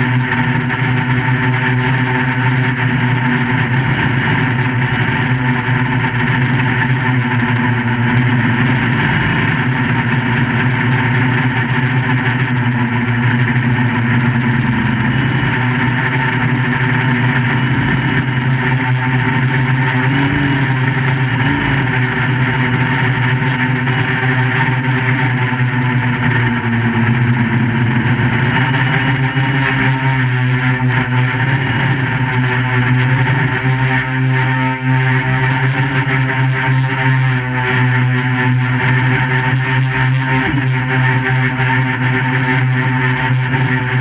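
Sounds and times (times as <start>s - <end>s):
quadcopter motors droning: 0.0s - 44.0s.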